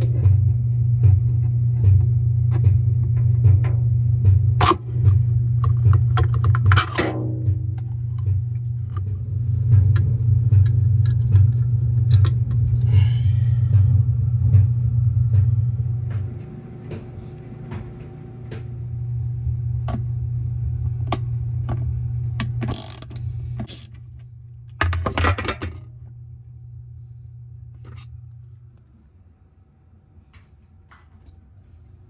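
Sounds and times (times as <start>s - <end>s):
washing machine hum: 0.0s - 32.0s.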